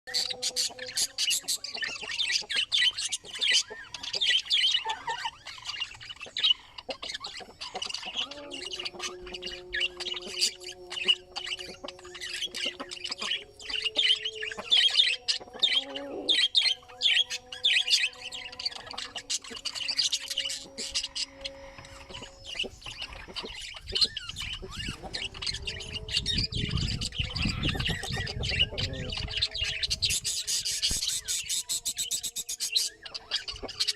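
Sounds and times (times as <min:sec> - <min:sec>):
budgerigars chattering: 0:00.1 - 0:33.9.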